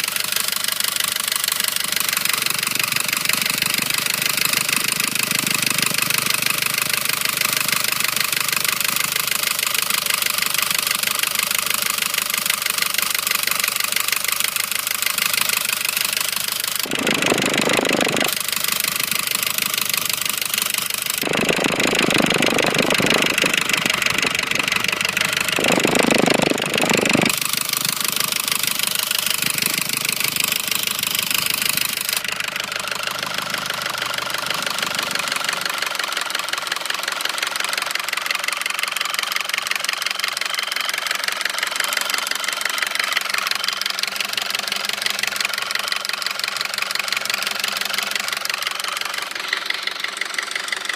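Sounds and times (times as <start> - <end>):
car engine knocking: 0.0 - 50.9.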